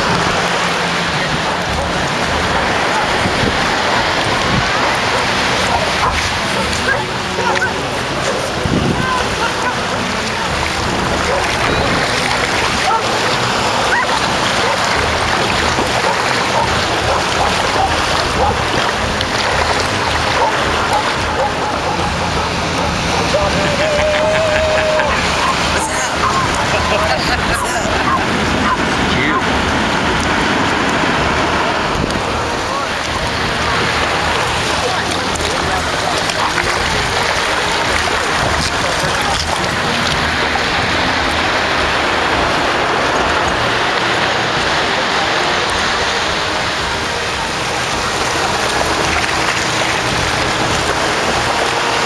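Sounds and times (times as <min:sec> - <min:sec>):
dogs splashing through water: 0:00.0 - 0:52.0
shallow ocean surf: 0:00.0 - 0:52.0
wind buffeting microphone: 0:00.0 - 0:52.0.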